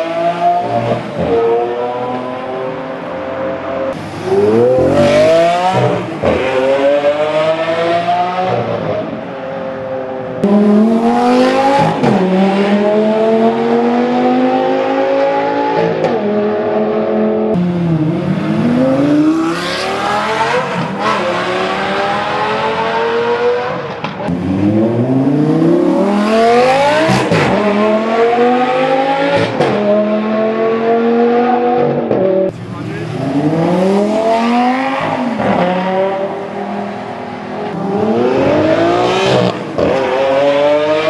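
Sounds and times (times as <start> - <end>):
car engines accelerating hard: 0.0 - 41.0.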